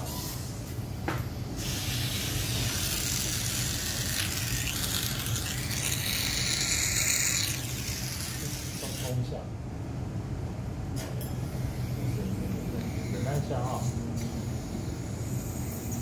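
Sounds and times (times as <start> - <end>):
suction unit hissing: 0.0 - 9.5, 11.4 - 16.0.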